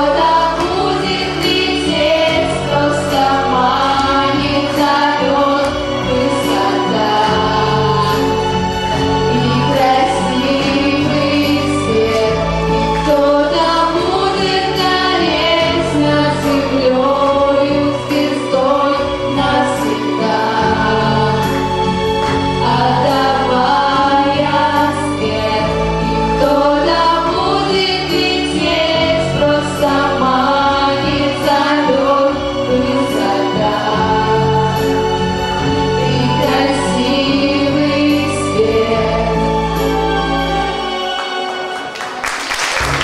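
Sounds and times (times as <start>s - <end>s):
girls singing together: 0.0s - 42.0s
instrumental accompaniment with bass: 0.0s - 43.0s.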